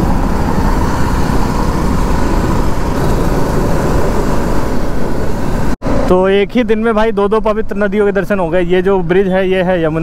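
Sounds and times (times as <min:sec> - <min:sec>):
motorcycle road noise: 0:00.0 - 0:10.0.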